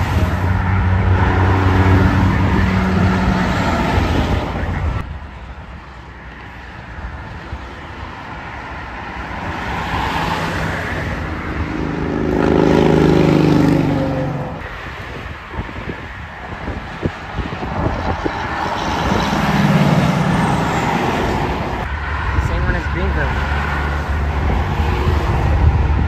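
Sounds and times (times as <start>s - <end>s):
highway traffic: 0.0s - 26.0s
semi truck diesel engine and tyres: 0.0s - 26.0s.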